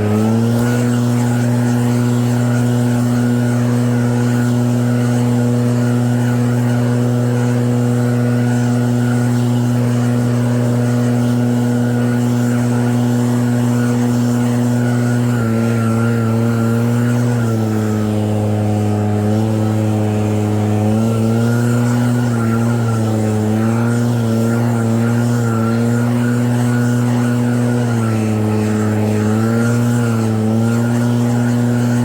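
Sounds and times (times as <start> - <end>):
snow blower engine running: 0.0 - 32.0.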